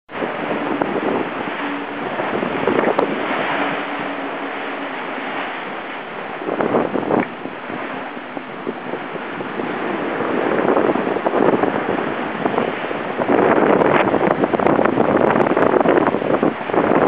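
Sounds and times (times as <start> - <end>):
water rushing along boat hull: 0.1 - 17.0
wind buffeting microphone: 0.1 - 17.0.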